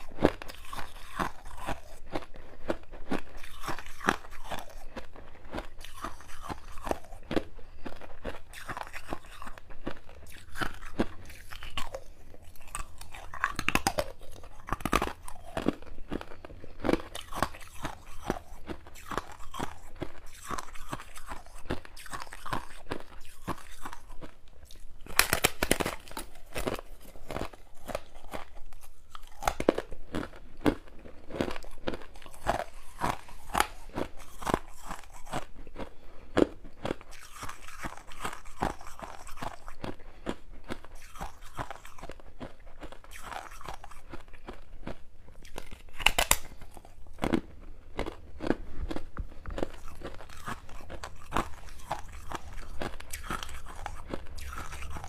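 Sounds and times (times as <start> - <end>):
frost being chewed crunching: 0.0 - 55.0.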